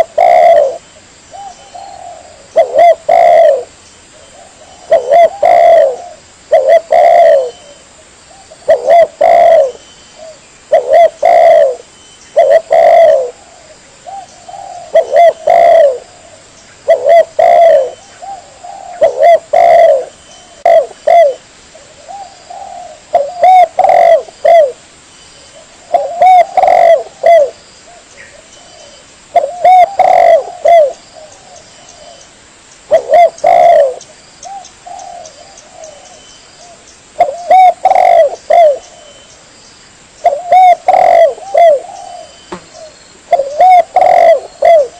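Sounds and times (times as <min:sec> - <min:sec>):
dove cooing: 0:00.0 - 0:24.8, 0:25.5 - 0:32.3, 0:32.9 - 0:39.3, 0:40.2 - 0:44.9.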